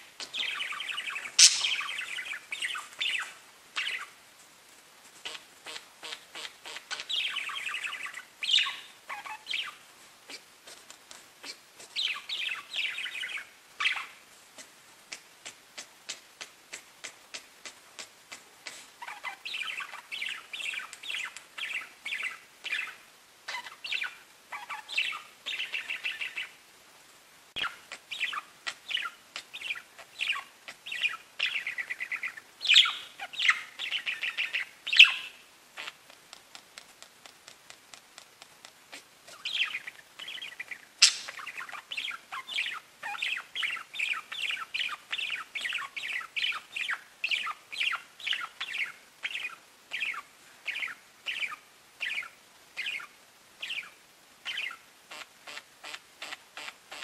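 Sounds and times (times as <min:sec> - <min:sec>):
budgerigars chirping and warbling: 0:00.2 - 0:04.2, 0:05.2 - 0:10.4, 0:11.4 - 0:14.2, 0:17.0 - 0:26.6, 0:27.6 - 0:36.1, 0:38.9 - 0:57.0.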